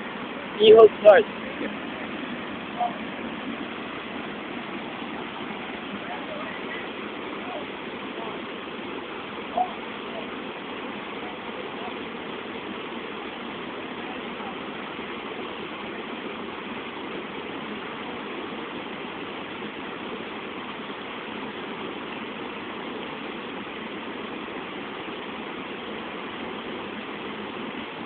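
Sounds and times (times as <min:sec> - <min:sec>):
rushing flowing water: 0:00.0 - 0:28.0.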